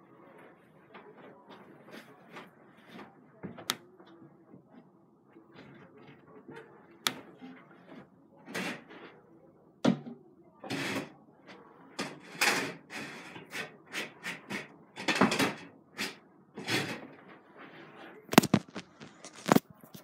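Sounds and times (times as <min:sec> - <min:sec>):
rustles and clatters of handling: 0:00.0 - 0:20.0.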